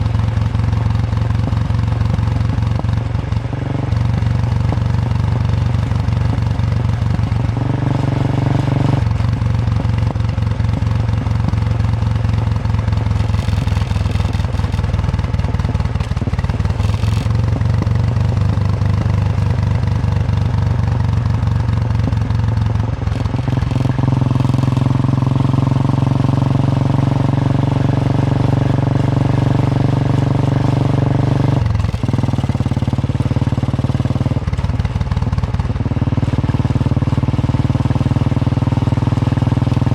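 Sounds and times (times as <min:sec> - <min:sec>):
motorcycle engine thumping: 0:00.0 - 0:26.0, 0:31.6 - 0:39.9.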